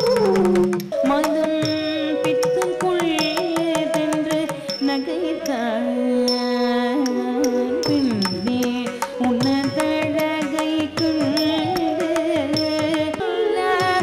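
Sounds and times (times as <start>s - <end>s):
percussion strikes: 0.0s - 5.6s, 6.3s - 14.0s
ornamented melody: 0.0s - 14.0s.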